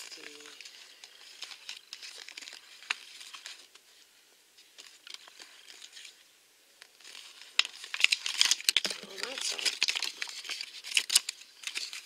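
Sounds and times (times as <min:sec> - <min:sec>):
paper leaflet rustling: 0:00.0 - 0:12.0.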